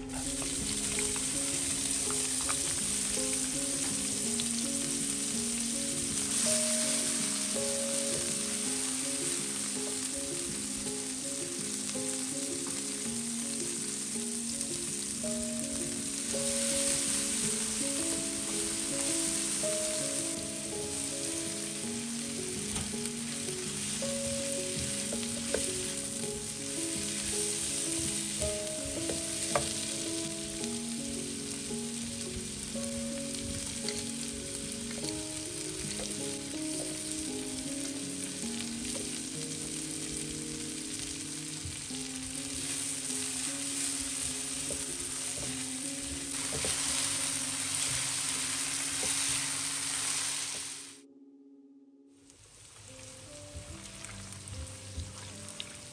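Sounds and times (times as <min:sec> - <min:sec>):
food sizzling in oil: 0:00.0 - 0:51.0
soft tune: 0:00.0 - 0:55.9.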